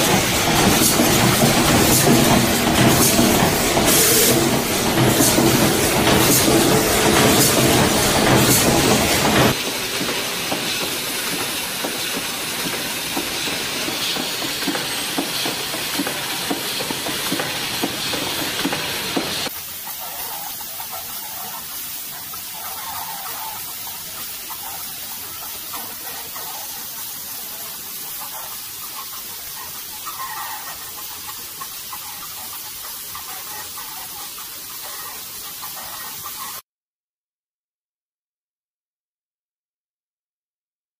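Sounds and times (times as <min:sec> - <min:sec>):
production machinery hissing and clattering: 0:00.0 - 0:36.6.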